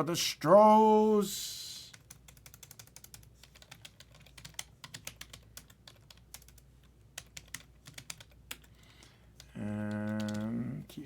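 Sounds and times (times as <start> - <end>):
typing on computer keyboard: 1.9 - 11.0.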